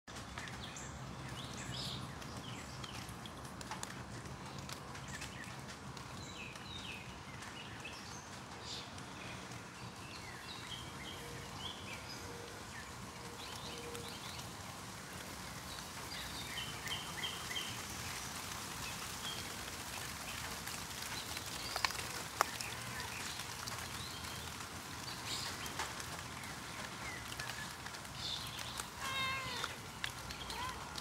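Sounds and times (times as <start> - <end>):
birds chirping: 0.1 - 31.0
light rain on a pond: 0.1 - 31.0.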